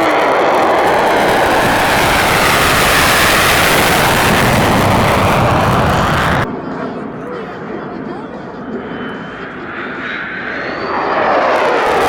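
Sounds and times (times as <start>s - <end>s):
fighter jet engine roar: 0.0s - 6.8s, 8.4s - 12.0s.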